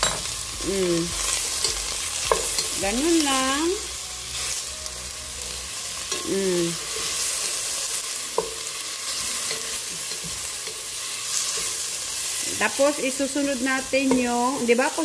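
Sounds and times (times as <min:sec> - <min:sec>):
aromatics sizzling in hot oil: 0:00.0 - 0:15.0.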